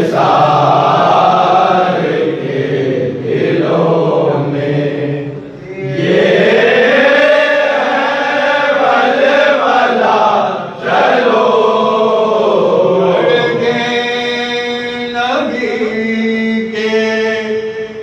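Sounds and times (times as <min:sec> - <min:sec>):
men chanting a lament: 0:00.0 - 0:18.0.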